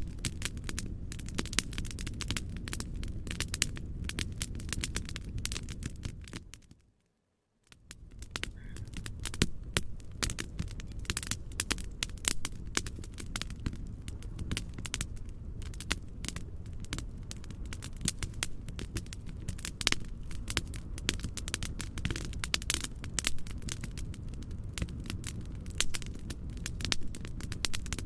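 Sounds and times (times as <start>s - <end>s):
wood fire crackling and popping: 0.0s - 6.9s, 7.6s - 28.0s.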